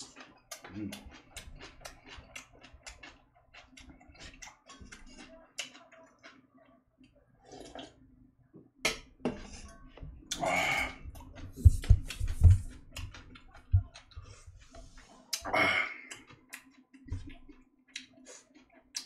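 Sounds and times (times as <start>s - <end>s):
wet chewing: 0.0s - 8.0s, 9.6s - 19.0s.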